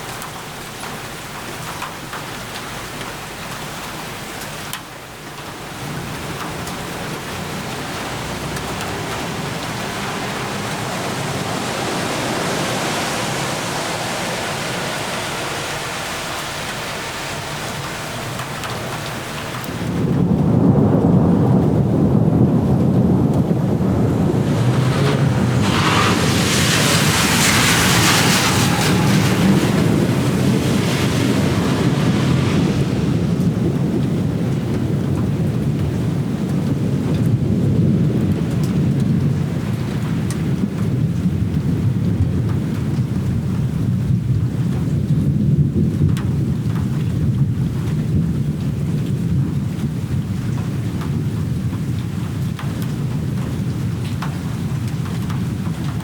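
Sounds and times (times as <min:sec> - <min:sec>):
heavy rain: 0:00.0 - 0:56.0
low rumble of thunder: 0:05.2 - 0:56.0.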